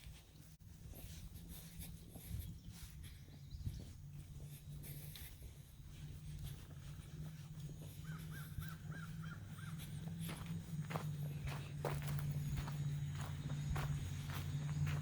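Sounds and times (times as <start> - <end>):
steady low hum: 0.0 - 15.0
bird calls: 2.1 - 15.0.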